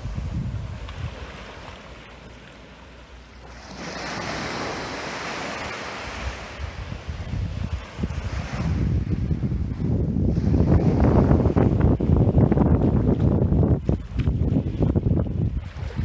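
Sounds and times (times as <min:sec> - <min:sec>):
wind buffeting microphone: 0:00.0 - 0:01.7, 0:04.0 - 0:16.0
small waves breaking on beach: 0:00.0 - 0:16.0.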